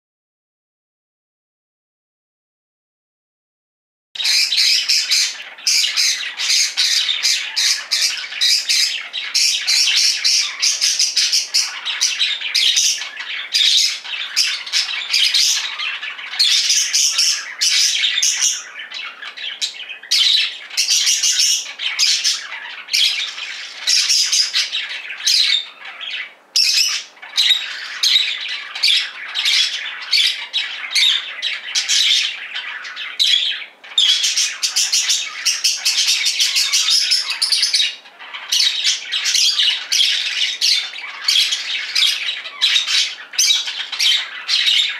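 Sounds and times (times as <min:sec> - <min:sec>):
budgerigars chirping and warbling: 0:04.2 - 0:44.9.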